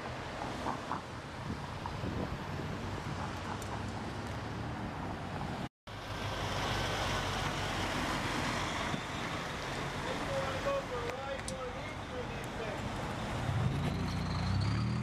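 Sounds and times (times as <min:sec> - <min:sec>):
tyre and road noise: 0:00.0 - 0:15.0.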